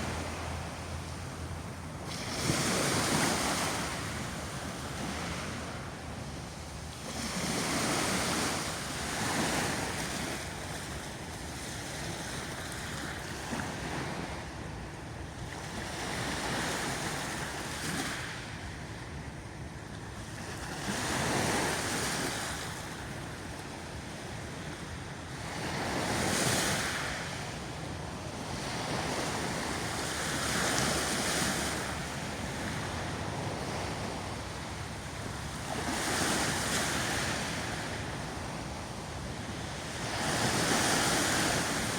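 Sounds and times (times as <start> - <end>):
sea waves breaking on shore: 0.0 - 14.8, 15.5 - 41.9.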